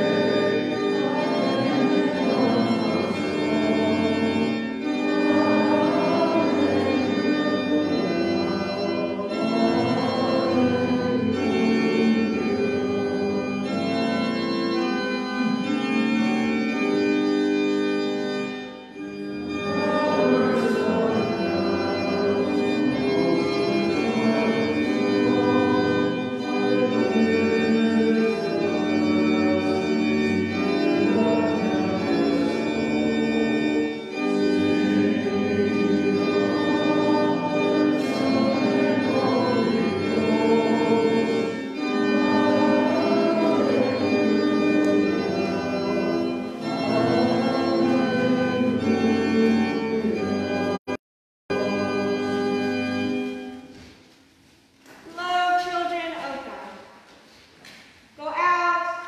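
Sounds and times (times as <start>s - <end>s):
organ chords: 0.0s - 53.9s.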